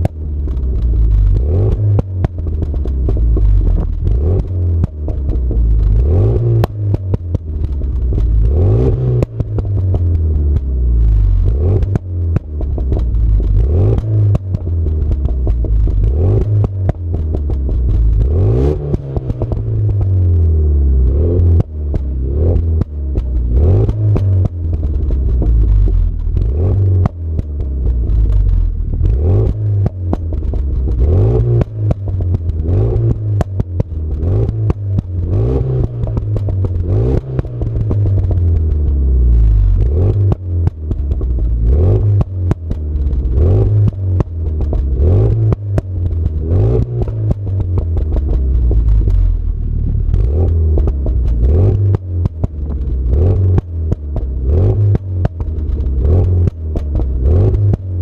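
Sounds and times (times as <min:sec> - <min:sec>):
car exhaust revving: 0:00.0 - 0:58.0.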